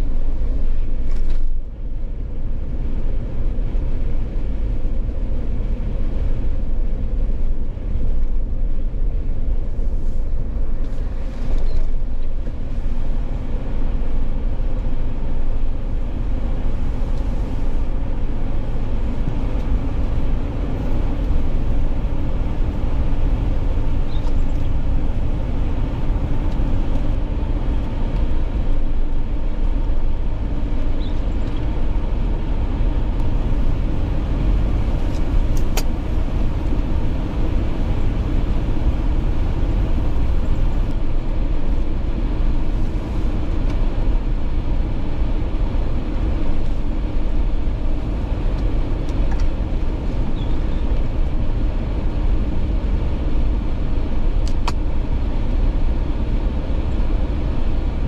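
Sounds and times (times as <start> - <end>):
car driving road noise: 0.0 - 58.0.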